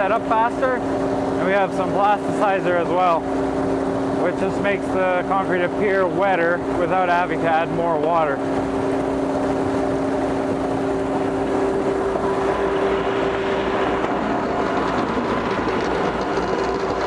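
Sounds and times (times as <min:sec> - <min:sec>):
diesel machinery drone: 0:00.0 - 0:17.0
held machine whine: 0:00.0 - 0:17.0.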